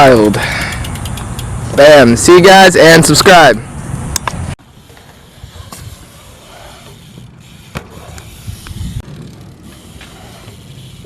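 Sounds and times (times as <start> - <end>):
steady background noise: 0.0 - 11.0
wheels rolling on concrete: 0.0 - 11.0.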